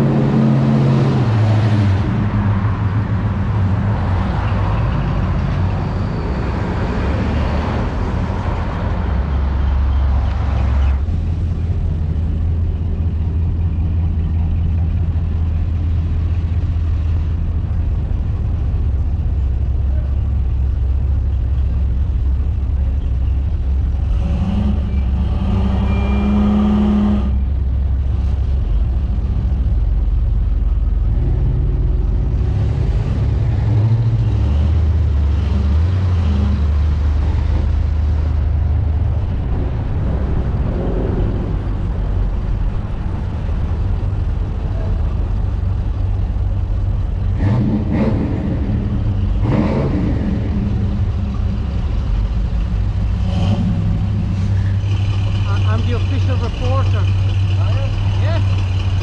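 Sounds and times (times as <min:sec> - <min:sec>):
car engines rumbling: 0:00.0 - 0:59.0.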